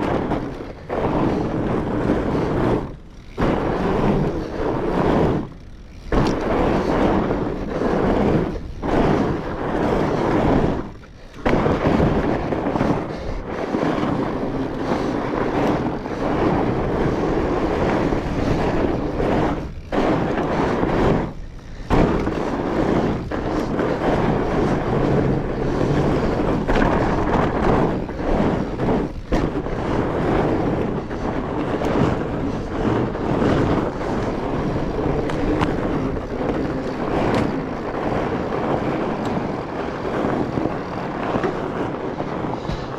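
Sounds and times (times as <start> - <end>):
tyres crunching over snow: 0.0 - 42.9
wind on microphone: 0.0 - 42.9.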